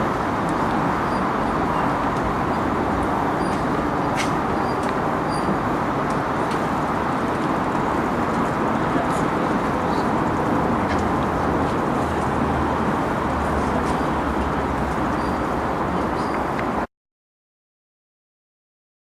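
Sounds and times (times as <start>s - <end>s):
train rumbling past: 0.0s - 16.8s.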